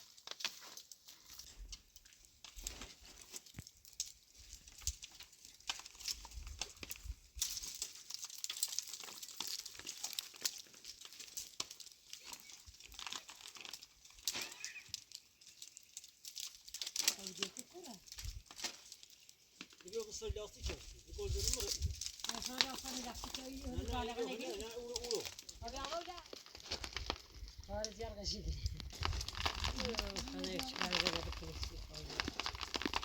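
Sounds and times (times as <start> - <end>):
dry leaves and twigs rustling: 0.0 - 33.0.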